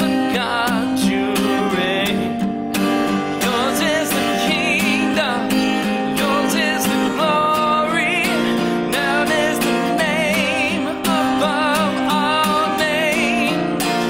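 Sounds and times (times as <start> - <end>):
man singing with vibrato: 0.0 - 14.0
strummed acoustic guitar: 0.0 - 14.0.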